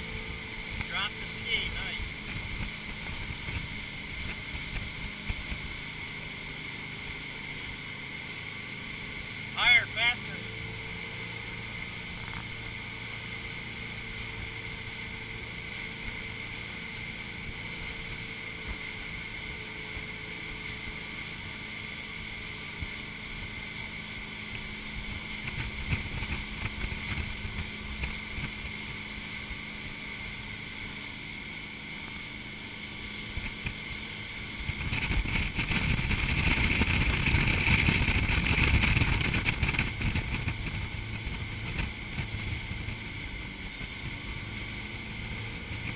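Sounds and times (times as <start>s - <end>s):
boat engine running: 0.0s - 45.9s
rush of wind and water: 0.0s - 45.9s
water rushing past hull: 0.0s - 45.9s.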